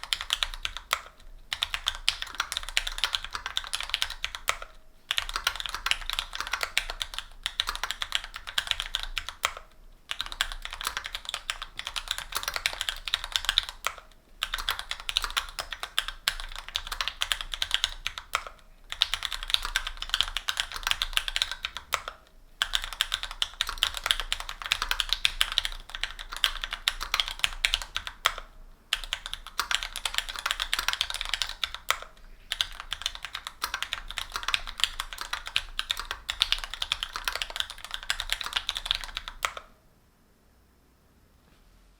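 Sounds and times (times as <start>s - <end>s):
typing on mechanical keyboard: 0.0s - 39.7s.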